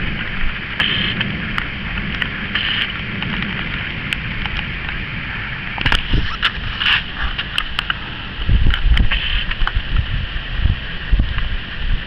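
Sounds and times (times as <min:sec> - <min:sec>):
low thunder rumble: 0:00.0 - 0:12.0
steady rain: 0:00.0 - 0:12.0.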